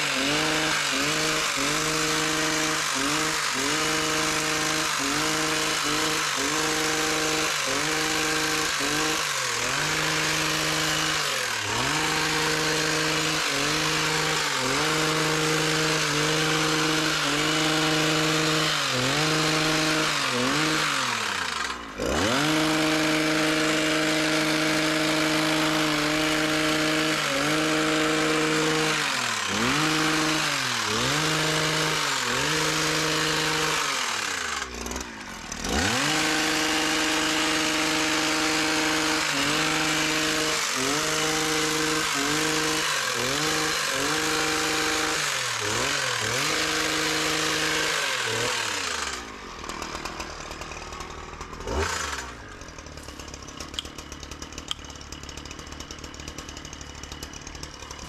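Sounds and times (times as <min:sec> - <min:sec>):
small petrol engine revving: 0:00.0 - 0:58.0.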